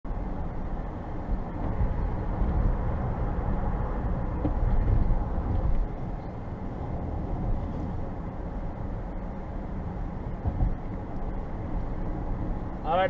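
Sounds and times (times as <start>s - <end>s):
car cabin road rumble: 0.1s - 13.0s.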